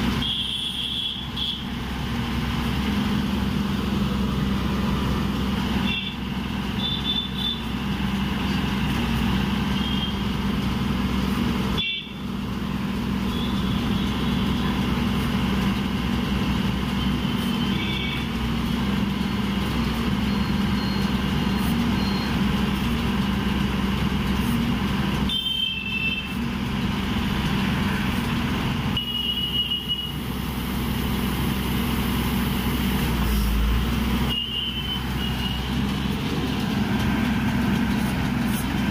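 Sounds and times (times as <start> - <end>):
drilling rig engine running: 0.0 - 38.9
road traffic passing: 0.0 - 38.9.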